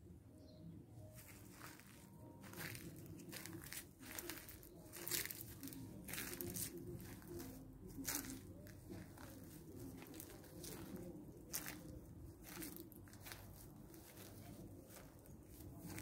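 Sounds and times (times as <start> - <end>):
footsteps crunching dry leaves: 1.1 - 16.0.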